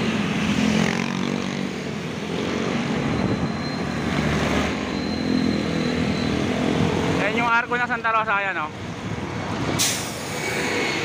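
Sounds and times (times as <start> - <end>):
motorcycle engines: 0.0 - 11.0.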